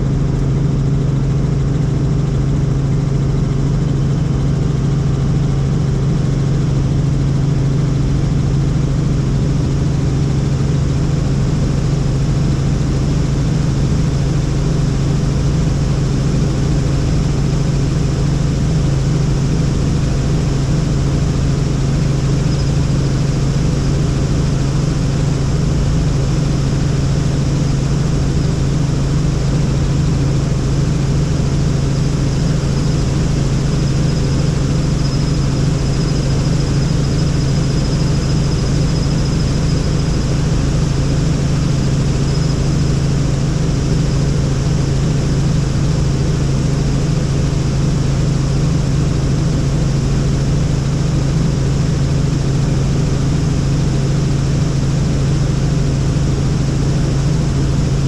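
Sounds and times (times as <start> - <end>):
faint high whine: 0.0 - 58.0
helicopter engine and rotor drone: 0.0 - 58.0.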